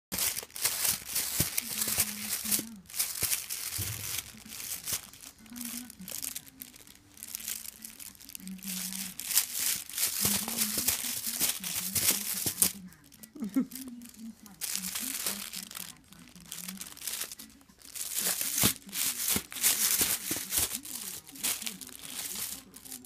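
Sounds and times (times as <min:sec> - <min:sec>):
crinkly material scrunched: 0:00.1 - 0:23.0.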